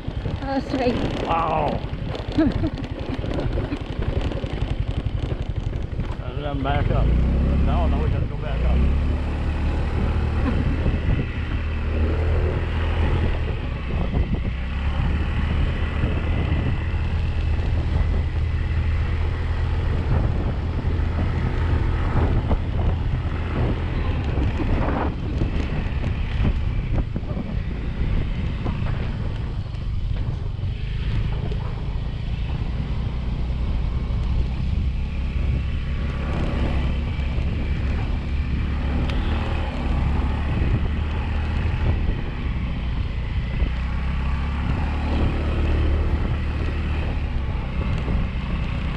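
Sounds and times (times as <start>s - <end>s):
motorbike engine running: 0.0s - 48.9s
wind buffeting microphone: 0.0s - 48.9s.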